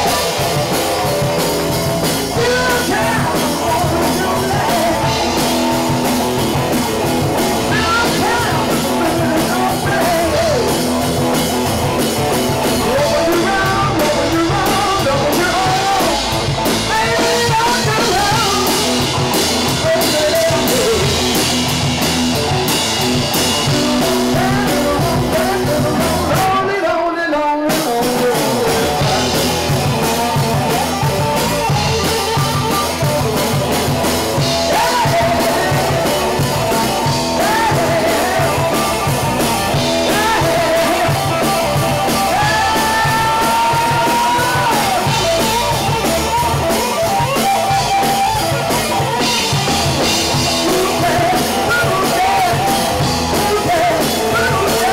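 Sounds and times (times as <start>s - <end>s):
bass guitar: 0.0s - 54.9s
drum kit: 0.0s - 54.9s
electric guitar: 0.0s - 54.9s
man singing into a microphone: 2.3s - 21.4s, 23.4s - 33.6s, 34.4s - 54.9s.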